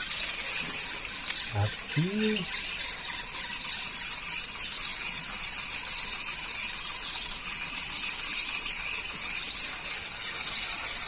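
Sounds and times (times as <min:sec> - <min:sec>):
steady riverside hiss: 0:00.0 - 0:11.0.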